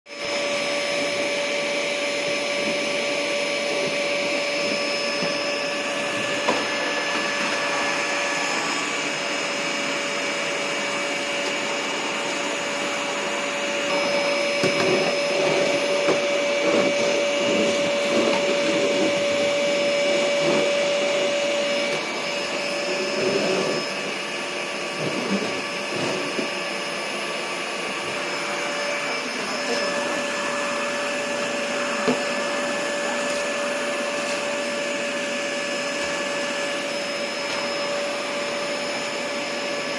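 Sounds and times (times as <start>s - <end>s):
vacuum cleaner running: 0.1s - 39.9s.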